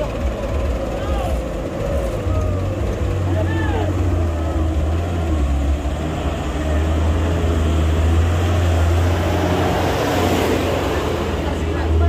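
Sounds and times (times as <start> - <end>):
diesel truck engine labouring: 0.0 - 12.0.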